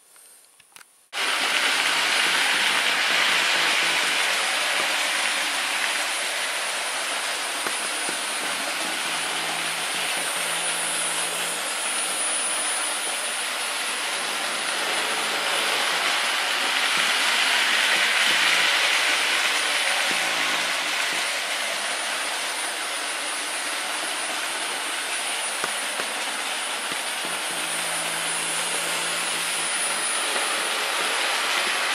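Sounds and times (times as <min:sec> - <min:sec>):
model trains rolling on track: 0:01.2 - 0:31.9.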